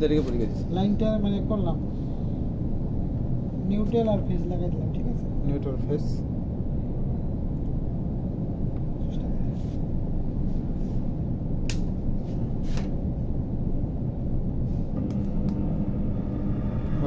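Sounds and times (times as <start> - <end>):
low machine rumble: 0.0 - 17.0.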